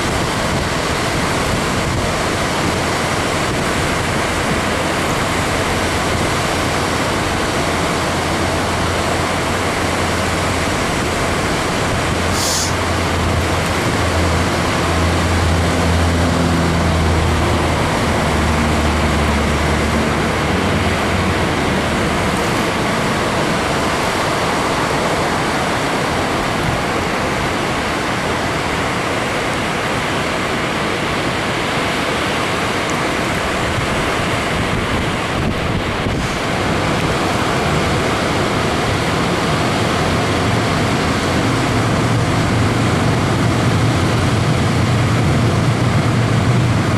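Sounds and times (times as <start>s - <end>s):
water rushing over dam: 0.0s - 46.9s.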